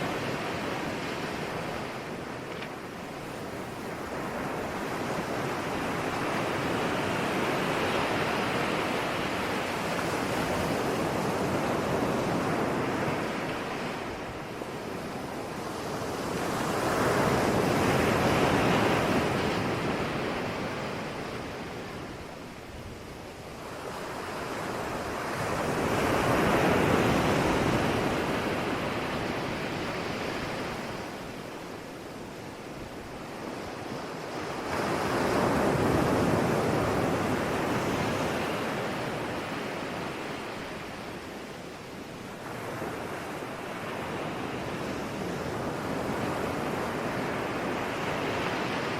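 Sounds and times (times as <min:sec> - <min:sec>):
ocean surf breaking on shore: 0:00.0 - 0:48.9.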